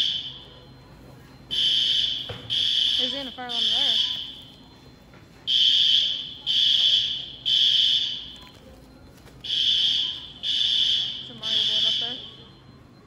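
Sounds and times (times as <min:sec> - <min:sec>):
fire alarm horn blasts: 0:00.0 - 0:00.8, 0:01.4 - 0:08.4, 0:09.4 - 0:13.0.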